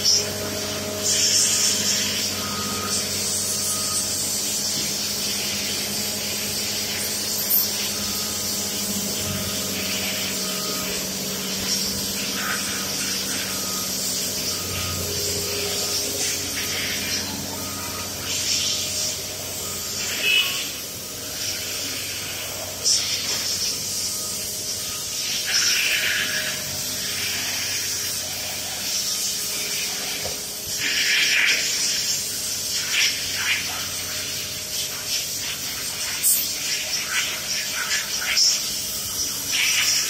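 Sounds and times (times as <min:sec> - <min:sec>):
hissing air sprays: 0:00.0 - 0:40.0.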